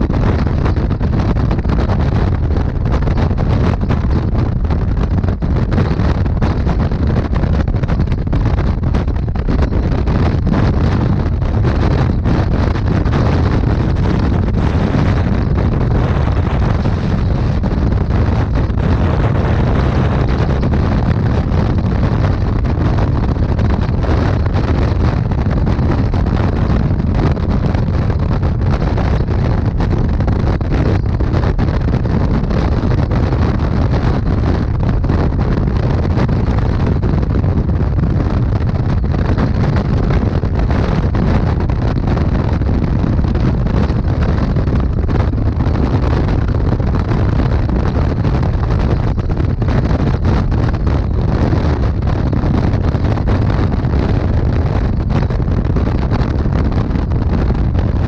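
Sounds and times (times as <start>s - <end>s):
motorcycle engine rumble: 0.0s - 58.0s
wind buffeting microphone: 0.0s - 58.0s.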